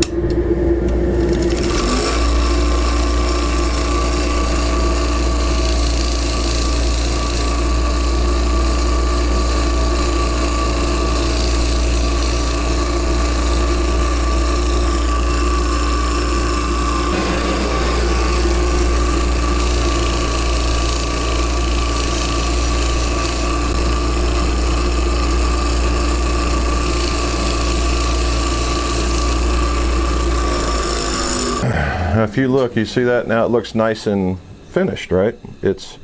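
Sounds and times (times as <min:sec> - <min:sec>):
belt sander grinding metal: 0:01.2 - 0:31.7.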